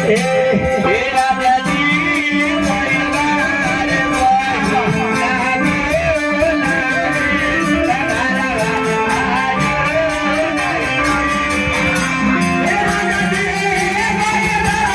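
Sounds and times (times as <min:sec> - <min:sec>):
plucked strings: 0:00.0 - 0:14.9
steady beat: 0:00.0 - 0:14.9
wavering folk melody: 0:00.0 - 0:14.9.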